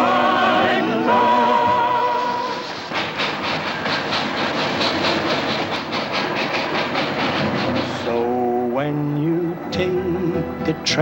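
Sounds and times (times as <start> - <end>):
steam hissing: 0.0 - 9.7
steam locomotive chuffing: 0.0 - 11.0.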